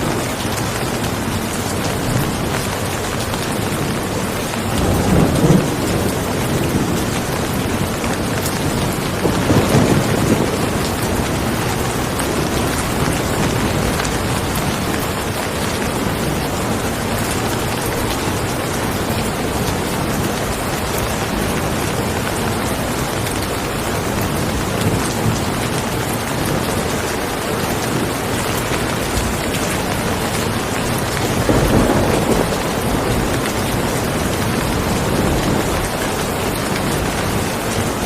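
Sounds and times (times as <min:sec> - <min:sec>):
heavy rain: 0:00.0 - 0:38.0
thunder rumbling: 0:00.0 - 0:38.0.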